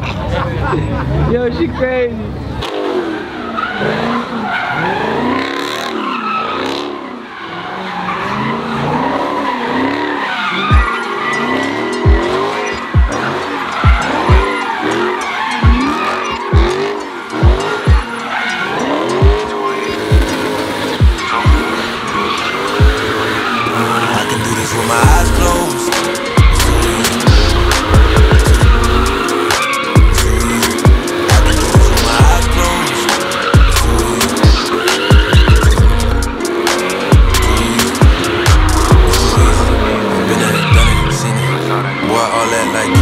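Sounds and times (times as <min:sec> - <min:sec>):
engines revving: 0:00.0 - 0:43.0
tyres skidding: 0:00.0 - 0:43.0
hip-hop beat with deep bass: 0:08.2 - 0:43.0.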